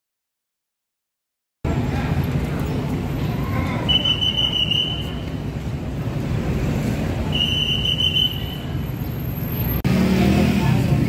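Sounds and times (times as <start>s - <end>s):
traffic rumble: 1.6s - 11.0s.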